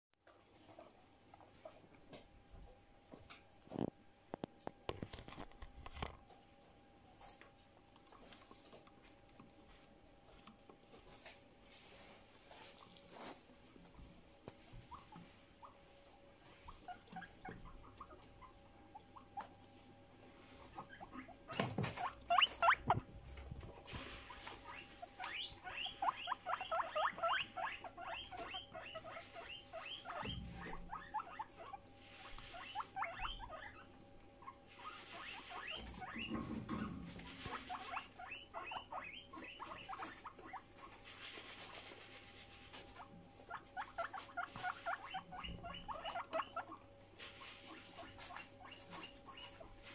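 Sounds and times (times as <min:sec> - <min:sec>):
guinea pigs squealing: 0:07.2 - 0:49.9.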